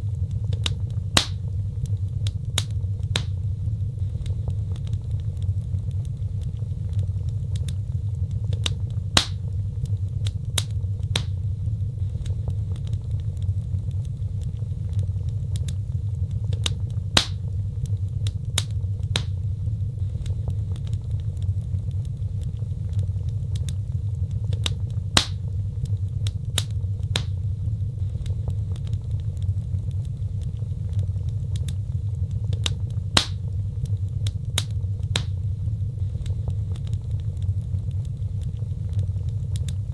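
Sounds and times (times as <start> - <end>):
fire burning rumble: 0.0 - 39.9
fire pops and snaps: 0.0 - 39.9.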